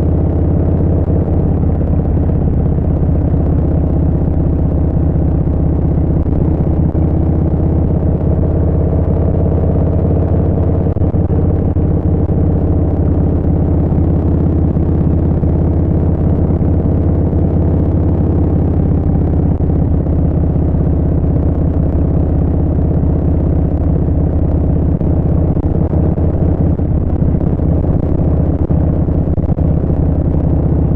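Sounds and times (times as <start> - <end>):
motorcycle engine cruising: 0.0 - 30.9.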